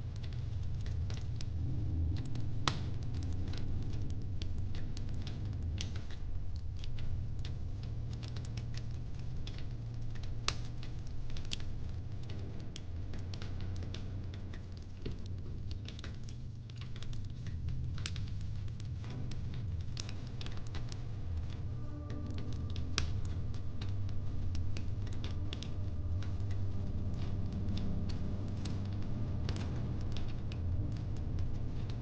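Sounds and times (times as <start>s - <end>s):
fire crackling: 0.0s - 32.0s.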